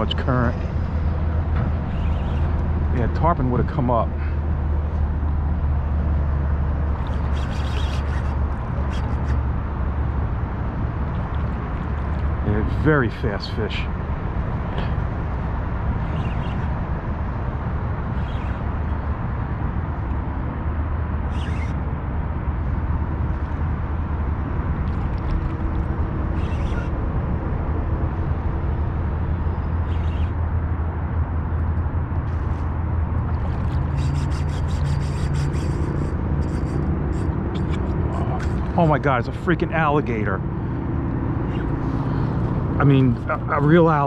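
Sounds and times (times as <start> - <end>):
low motor drone: 0.0 - 44.0.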